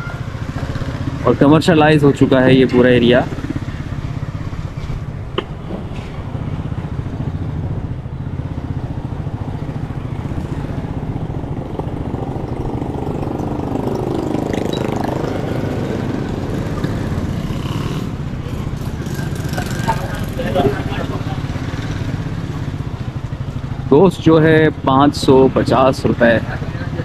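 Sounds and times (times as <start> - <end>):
motorcycle passing by: 0.0 - 27.0
small motorcycle engine running: 0.0 - 27.0.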